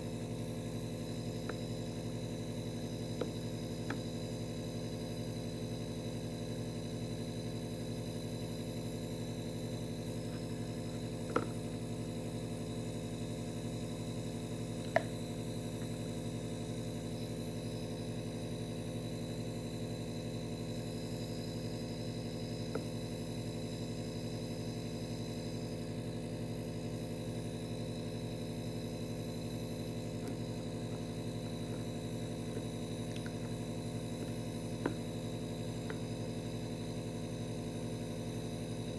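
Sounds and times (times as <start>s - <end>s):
steady electrical hum: 0.0s - 38.9s.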